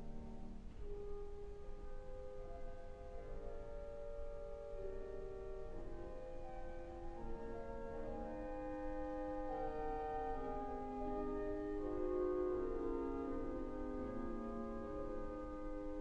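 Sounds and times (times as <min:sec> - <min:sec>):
pipe organ playing sustained chords: 0:00.0 - 0:16.0.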